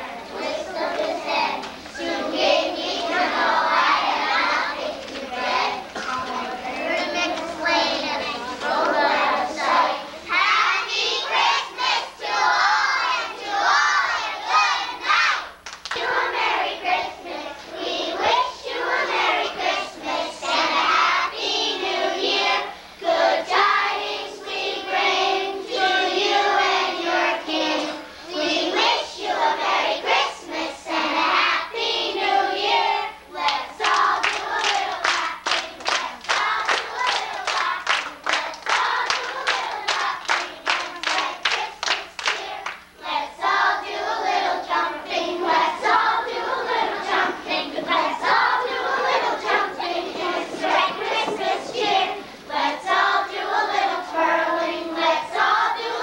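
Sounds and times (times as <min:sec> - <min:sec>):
rhythmic clapping: 0:00.0 - 0:22.5, 0:32.8 - 0:56.0
young children singing: 0:00.0 - 0:56.0.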